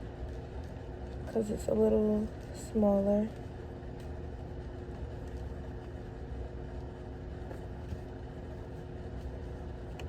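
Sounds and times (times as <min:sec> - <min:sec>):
low hum and rumble: 0:00.0 - 0:10.0.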